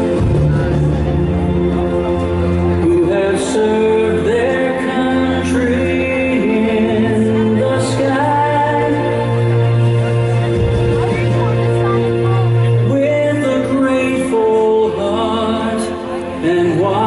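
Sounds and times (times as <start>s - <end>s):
music with singing over loudspeakers: 0.0s - 17.0s.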